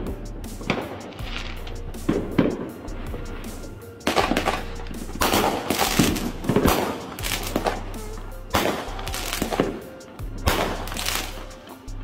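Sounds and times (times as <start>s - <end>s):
background music: 0.0s - 12.0s
fireworks popping and crackling: 0.0s - 12.0s.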